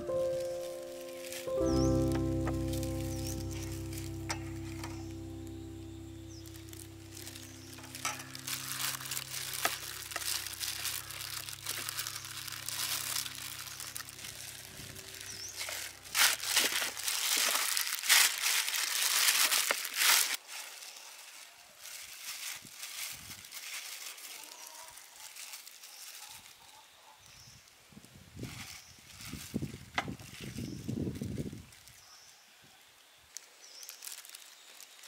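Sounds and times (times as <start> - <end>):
plastic gloves crinkling: 0.0 - 32.4, 33.1 - 35.0.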